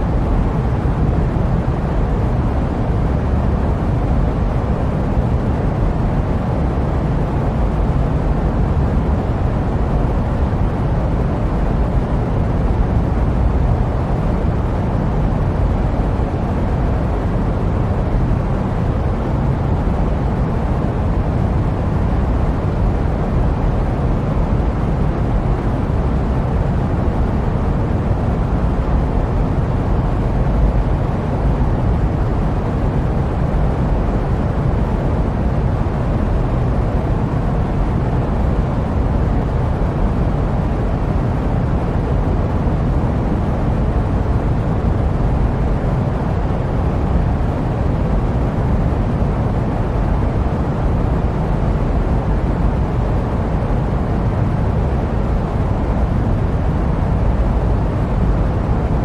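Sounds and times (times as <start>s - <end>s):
jet airliner rumble: 0.0s - 59.0s.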